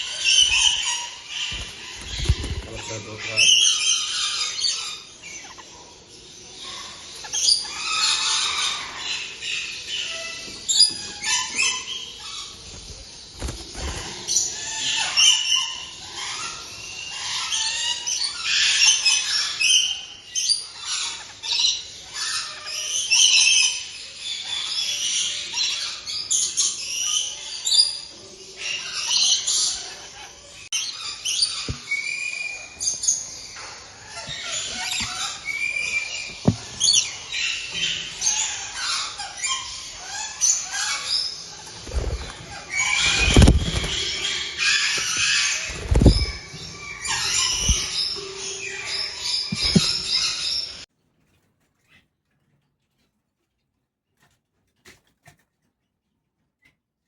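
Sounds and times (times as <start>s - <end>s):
caged birds squawking and chirping: 0.0s - 53.1s.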